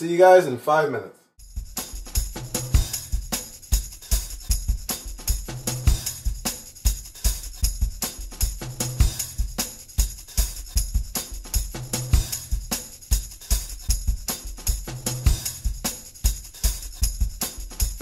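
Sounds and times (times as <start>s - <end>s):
music with drum beat and bass: 1.4s - 18.0s.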